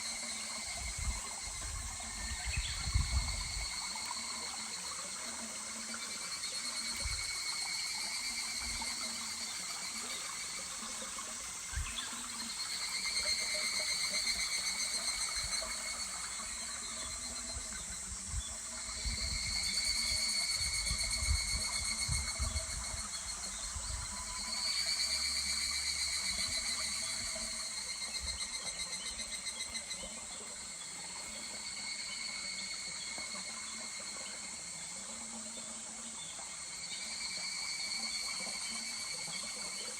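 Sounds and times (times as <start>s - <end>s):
cicadas calling: 0.0s - 39.9s
stream trickling: 0.0s - 39.9s.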